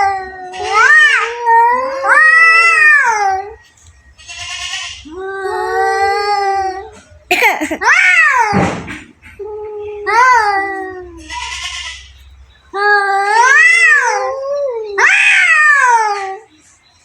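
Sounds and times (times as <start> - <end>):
cats yowling: 0.0 - 3.6, 4.2 - 7.2, 7.8 - 8.7, 9.4 - 12.1, 12.8 - 16.5.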